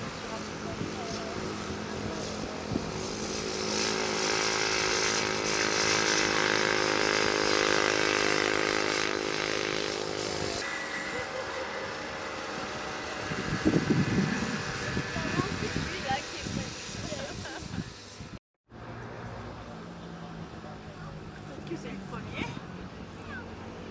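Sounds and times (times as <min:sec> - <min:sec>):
racing motorcycle engines passing: 0:00.0 - 0:23.9.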